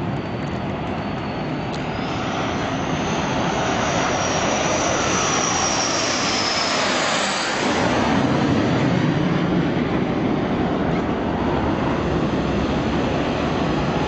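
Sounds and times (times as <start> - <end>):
jet engines roaring with whine: 0.0 - 14.0.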